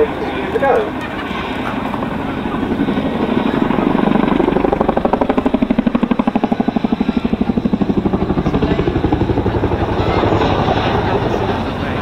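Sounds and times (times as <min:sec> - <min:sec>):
helicopter rotors beating: 0:00.0 - 0:12.0.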